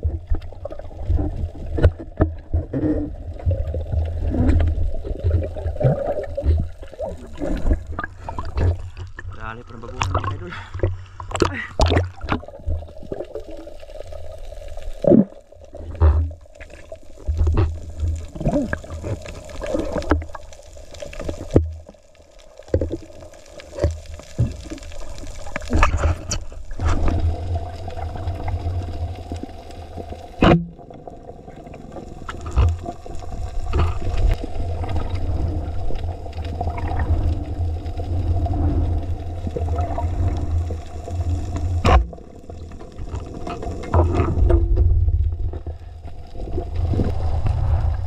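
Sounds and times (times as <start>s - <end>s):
water rushing and gurgling: 0.0s - 48.0s.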